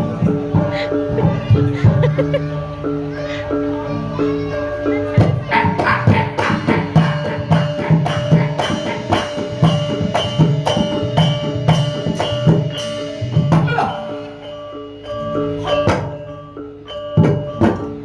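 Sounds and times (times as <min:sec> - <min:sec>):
live dance music with drums: 0:00.0 - 0:02.8, 0:04.7 - 0:18.0.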